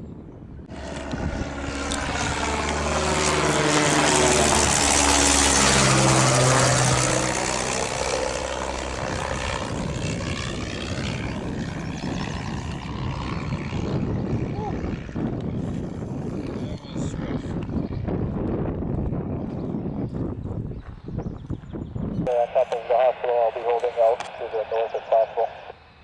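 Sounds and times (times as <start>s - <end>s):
aircraft passing close by: 0.1s - 26.0s.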